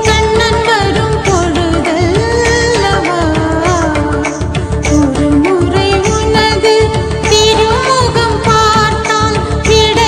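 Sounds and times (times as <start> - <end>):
regular drum beat: 0.0 - 10.0.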